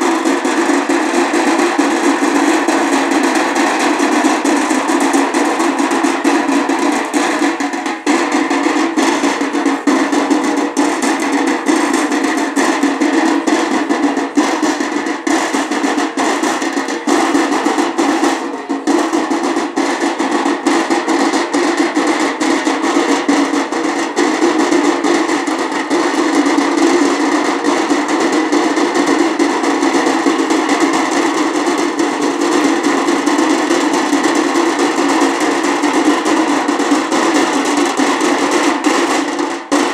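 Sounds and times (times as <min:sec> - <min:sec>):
drums beaten fast: 0:00.0 - 0:39.9.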